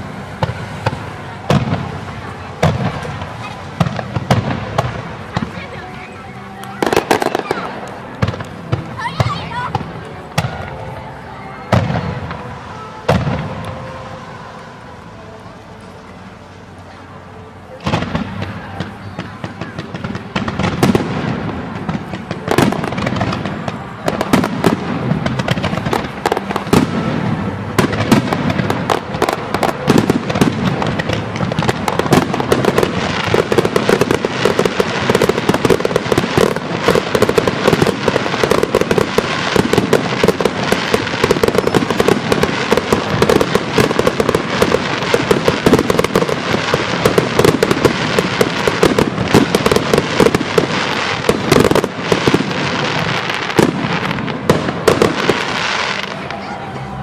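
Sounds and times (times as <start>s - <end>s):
fireworks bangs and crackle: 0.0s - 57.0s.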